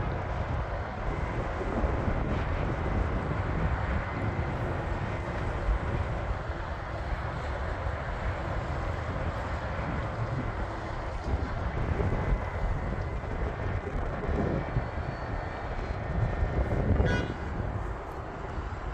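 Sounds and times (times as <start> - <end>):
jet engine roar: 0.0 - 18.9
wind on microphone: 0.0 - 18.9.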